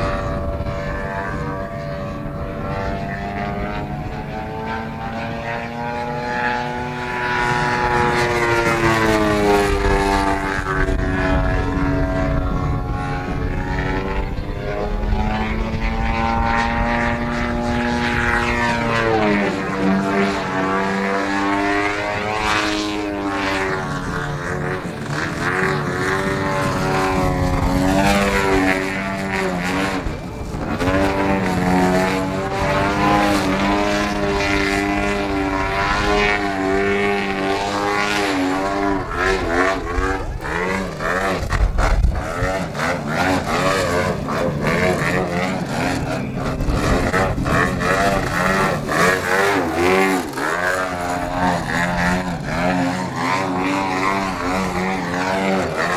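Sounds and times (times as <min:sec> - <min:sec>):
model plane engine swooping: 0:00.0 - 0:55.9.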